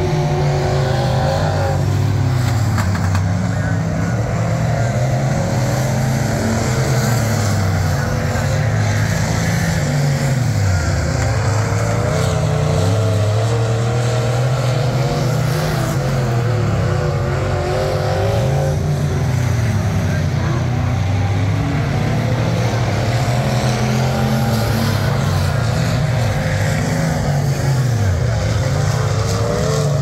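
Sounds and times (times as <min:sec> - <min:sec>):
race car engines at speed: 0:00.0 - 0:30.0.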